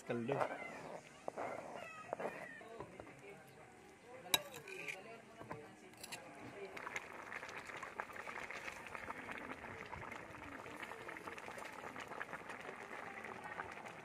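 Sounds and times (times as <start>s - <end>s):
stew boiling and bubbling: 0.0s - 14.0s.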